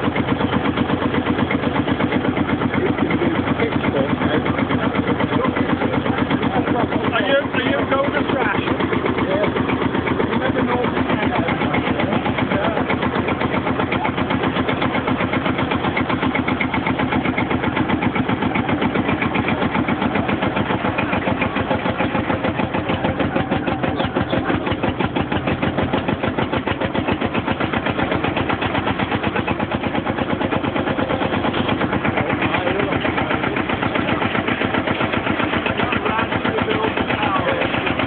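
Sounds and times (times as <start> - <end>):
tractor diesel engine thumping: 0.0 - 38.0.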